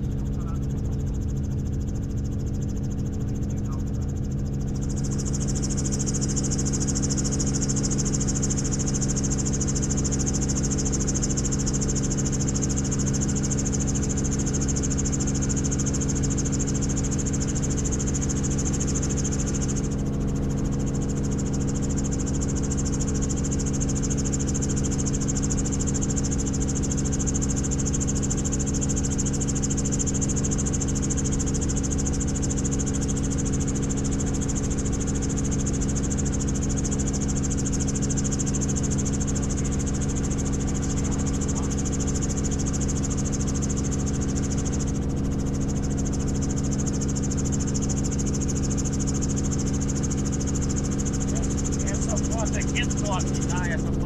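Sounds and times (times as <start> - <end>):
helicopter rotor drone: 0.0 - 54.0
high turbine whine: 0.0 - 54.0.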